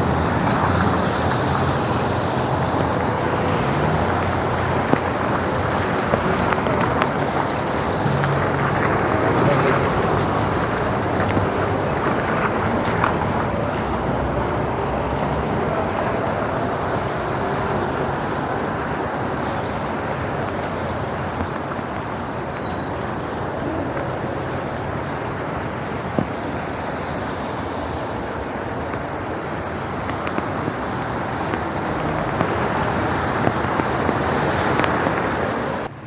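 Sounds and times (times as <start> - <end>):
tyres hissing on wet asphalt: 0.0 - 36.0.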